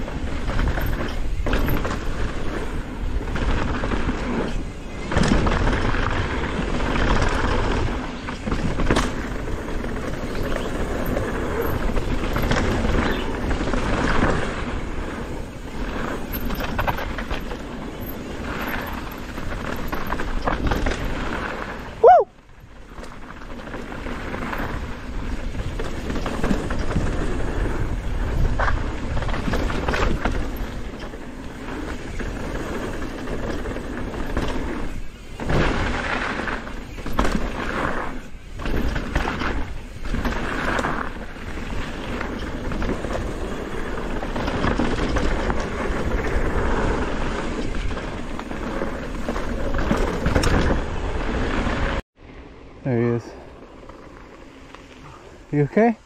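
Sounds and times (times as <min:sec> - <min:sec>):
bike knocking and rattling: 0:00.0 - 0:52.0
tyre and wind rumble: 0:00.0 - 0:56.0.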